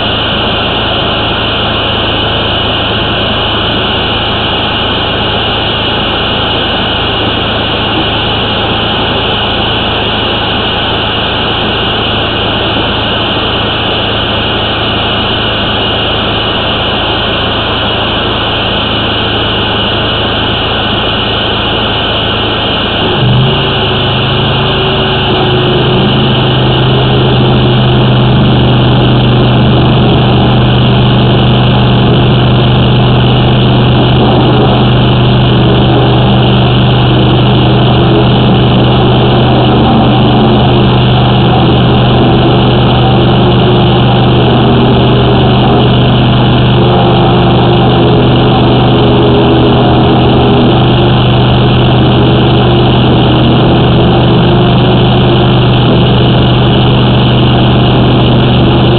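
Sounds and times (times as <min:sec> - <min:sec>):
drain jetter engine and pump: 0:00.0 - 0:58.9.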